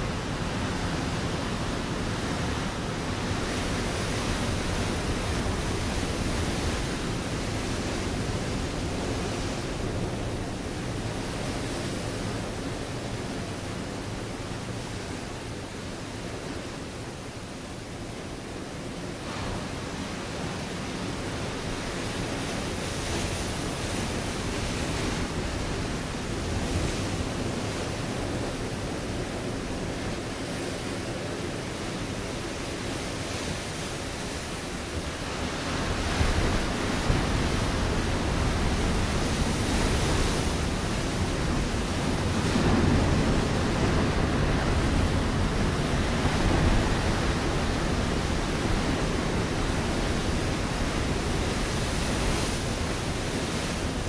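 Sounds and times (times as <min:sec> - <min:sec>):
ocean waves crashing on rocks: 0:00.0 - 0:17.2, 0:17.8 - 0:54.0.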